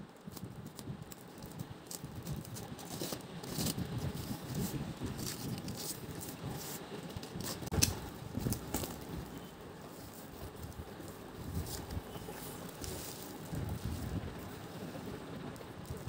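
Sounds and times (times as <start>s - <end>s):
parcel rustling and crinkling: 0.0s - 16.0s
packing tape peeling: 0.1s - 14.6s.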